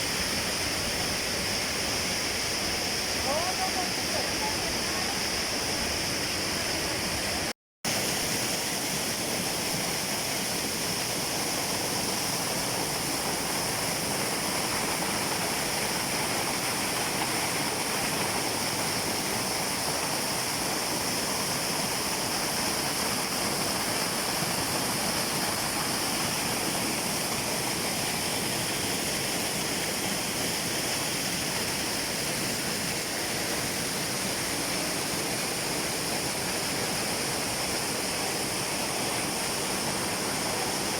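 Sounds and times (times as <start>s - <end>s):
rushing water: 0.0s - 40.9s.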